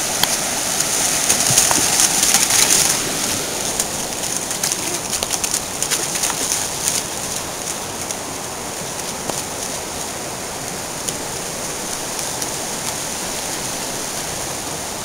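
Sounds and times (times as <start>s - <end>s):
dog splashing in water: 0.0s - 14.7s
river rushing over rocks: 0.0s - 15.0s.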